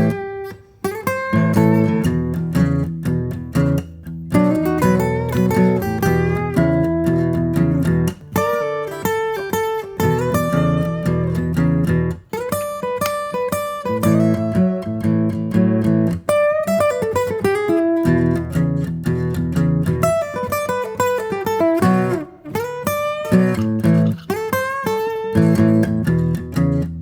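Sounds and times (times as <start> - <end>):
plucked acoustic guitar: 0.0 - 27.0.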